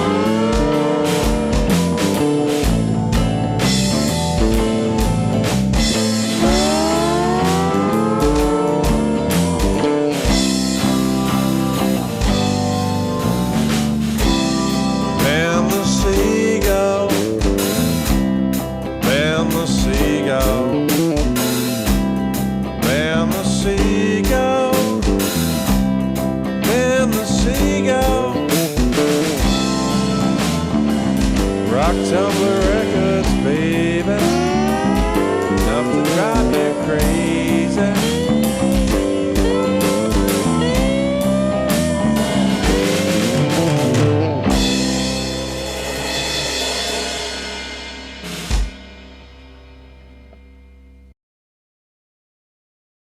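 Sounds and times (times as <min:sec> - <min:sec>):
steady drum beat: 0:00.0 - 0:50.0
lead guitar bending notes: 0:00.0 - 0:50.8
bass: 0:00.0 - 0:51.2.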